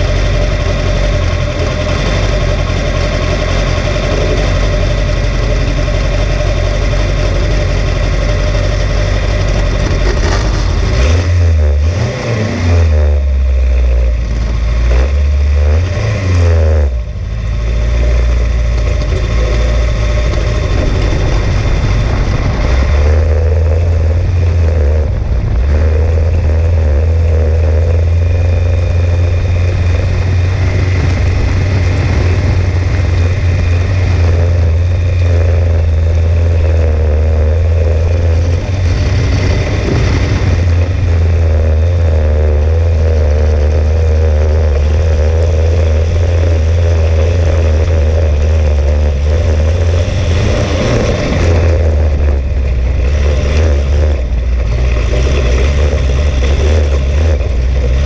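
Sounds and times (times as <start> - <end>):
dune buggy engine running hard: 0.0 - 58.0.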